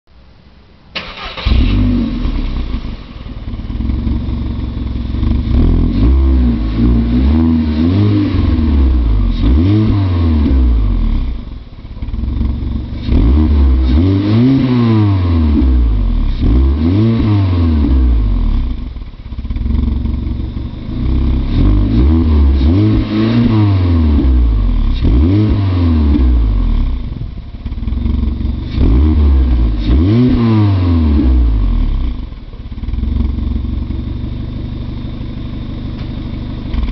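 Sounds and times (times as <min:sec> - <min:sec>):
car engine revving: 0:01.0 - 0:34.5.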